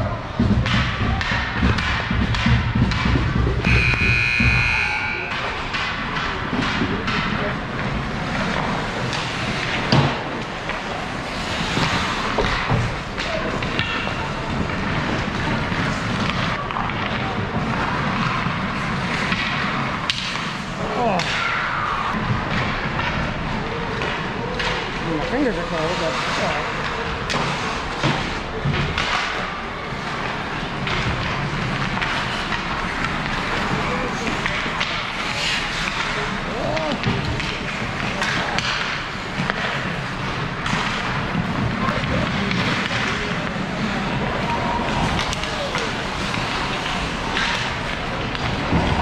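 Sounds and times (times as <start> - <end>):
hockey sticks and puck clacking: 0.0 - 49.0
skates on ice: 0.1 - 49.0.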